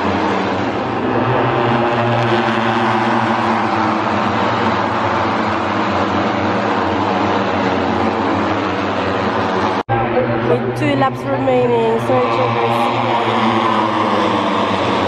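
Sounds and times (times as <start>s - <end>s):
racing motorcycles passing: 0.0s - 15.0s.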